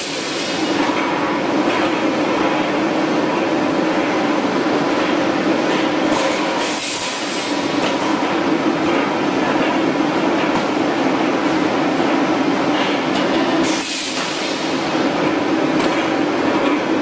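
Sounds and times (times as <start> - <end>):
mill machinery running: 0.0 - 17.0.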